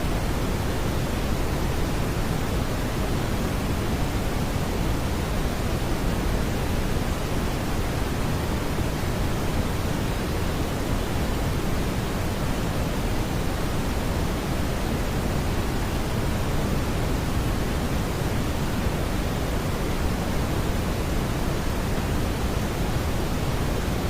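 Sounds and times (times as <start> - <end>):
brown noise hiss: 0.0 - 24.0.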